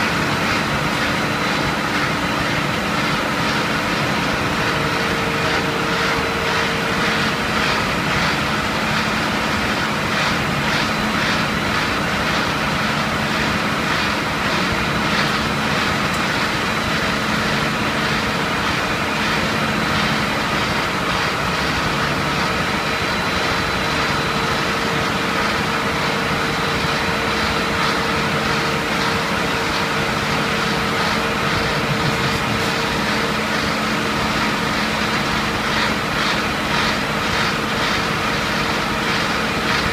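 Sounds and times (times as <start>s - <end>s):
machine drone of motors and rollers: 0.0s - 39.9s.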